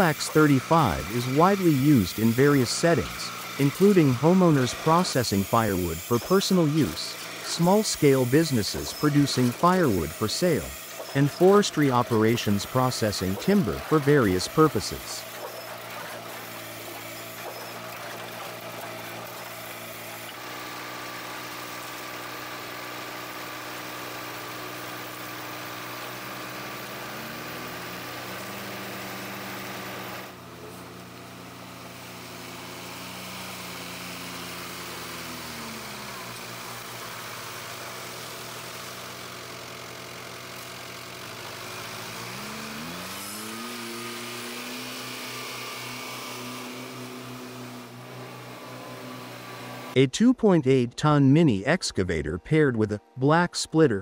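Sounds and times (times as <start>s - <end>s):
firewood machine engine running: 0.0s - 50.0s.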